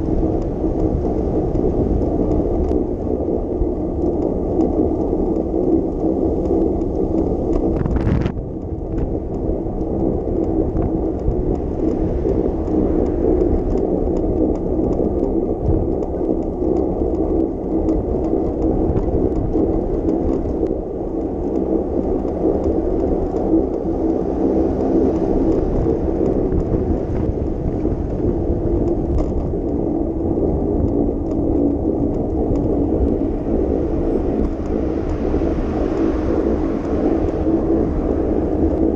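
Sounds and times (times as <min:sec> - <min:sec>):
wind and road rumble: 0:00.0 - 0:38.9.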